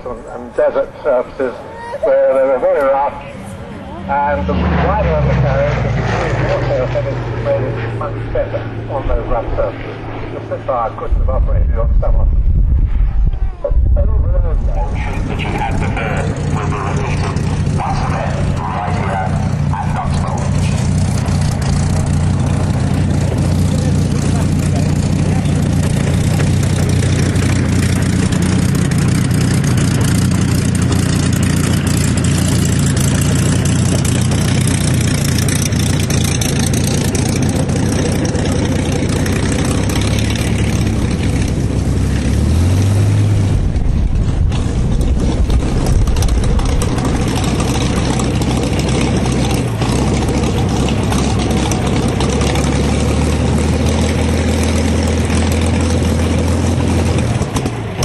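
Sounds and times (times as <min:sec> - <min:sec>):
aircraft engine running at low power: 0:00.0 - 0:58.0.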